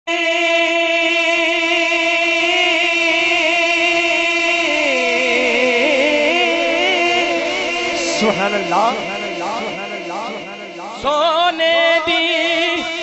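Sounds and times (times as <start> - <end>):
man singing: 0.1 - 13.0.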